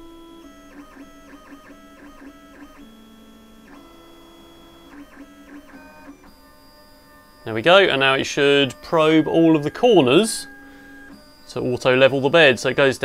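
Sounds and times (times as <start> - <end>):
stepper motors whining: 0.6 - 13.0.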